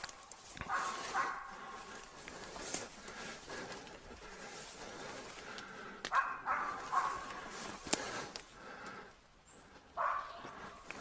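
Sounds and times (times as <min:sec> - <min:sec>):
dry grass rustling: 0:00.0 - 0:11.0
footsteps in undergrowth: 0:00.0 - 0:11.0.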